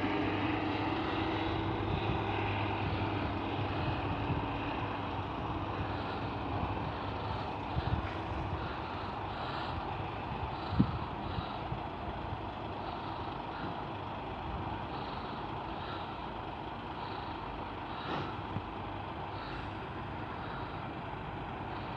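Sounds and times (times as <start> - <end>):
road noise: 0.0 - 21.9
vehicle engine hum: 0.0 - 21.9.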